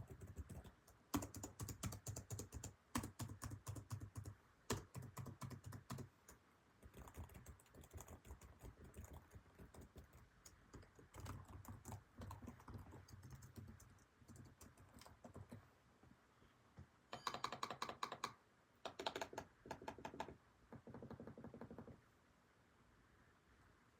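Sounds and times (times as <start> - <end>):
laptop keyboard typing: 0.0 - 15.6, 17.1 - 22.0.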